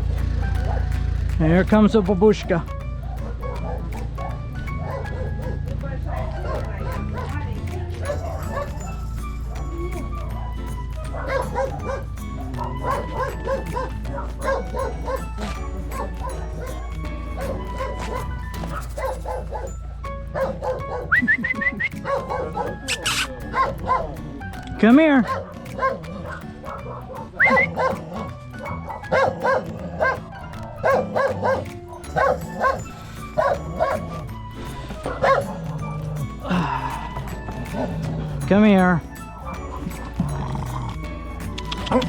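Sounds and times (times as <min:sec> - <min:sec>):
dog barking: 0:00.3 - 0:01.2, 0:03.0 - 0:24.2, 0:25.0 - 0:38.4.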